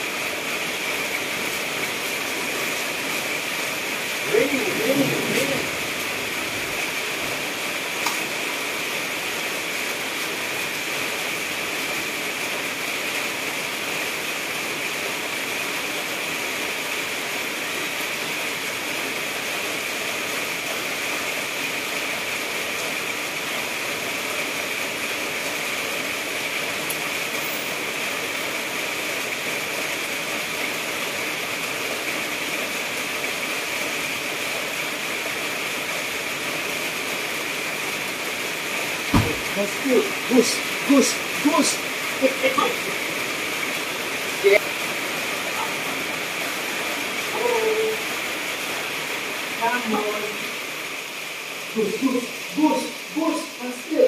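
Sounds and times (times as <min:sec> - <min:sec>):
heavy rain on metal roof: 0:00.0 - 0:54.0.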